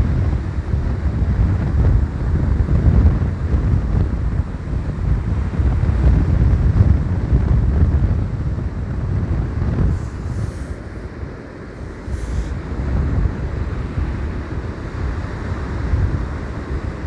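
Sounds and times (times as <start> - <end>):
stormy sea surf: 0.0 - 17.0
wind buffeting microphone: 0.0 - 17.0.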